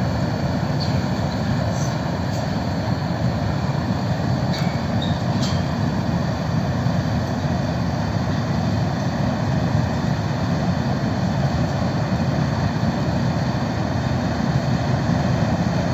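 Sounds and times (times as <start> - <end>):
furnace roaring: 0.0 - 15.9.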